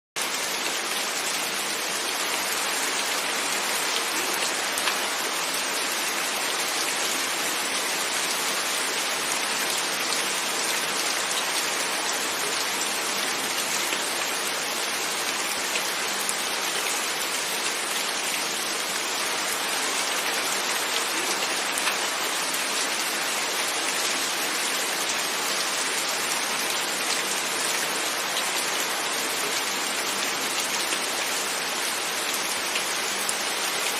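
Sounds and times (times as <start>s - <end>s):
rain on a window: 0.2s - 33.9s.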